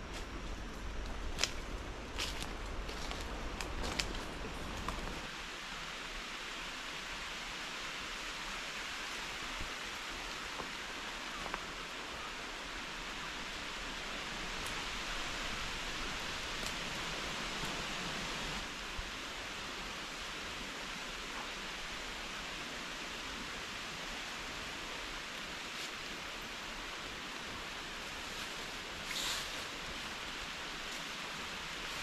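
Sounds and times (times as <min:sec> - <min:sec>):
heavy rain hissing: 0:02.0 - 0:32.0.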